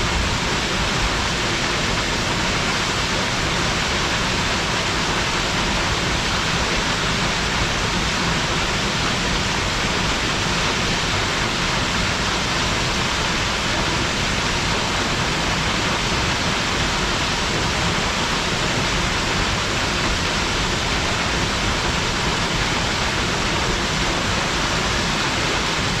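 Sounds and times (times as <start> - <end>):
waterfall pouring: 0.0 - 26.0.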